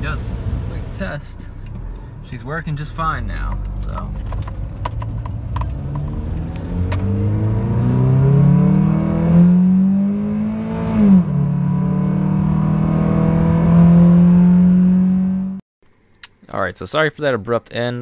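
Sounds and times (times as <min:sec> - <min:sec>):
car engine accelerating: 0:00.0 - 0:15.6.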